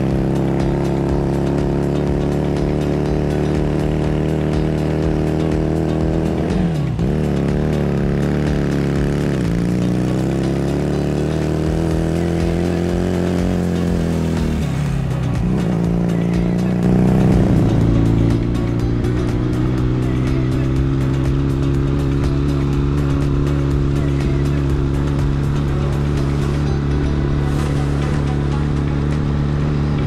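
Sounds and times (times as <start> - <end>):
small motorcycle engine running: 0.0 - 30.0.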